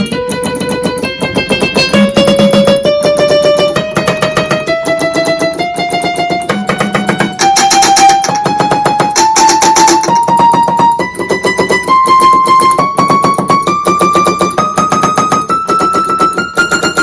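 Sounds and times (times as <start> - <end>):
electronic keyboard notes up scale: 0.0 - 17.0
solenoids clicking on plastic keys: 0.0 - 17.0.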